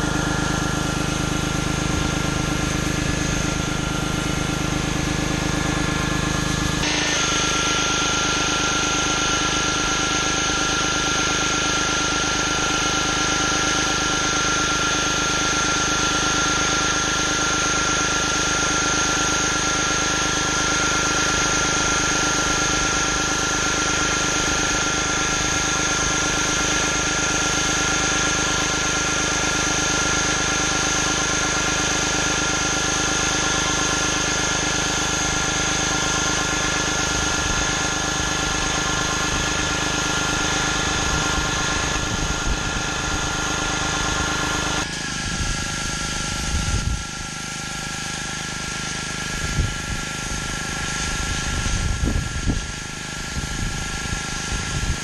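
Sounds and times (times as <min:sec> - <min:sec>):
high-pressure water spray hiss: 0:00.0 - 0:55.0
pressure washer engine running: 0:00.0 - 0:55.0.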